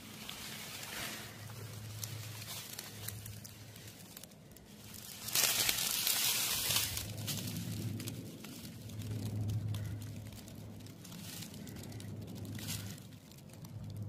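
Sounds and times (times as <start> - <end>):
dry leaves rustling and crackling: 0.0 - 14.0
low steady hum: 0.0 - 14.0.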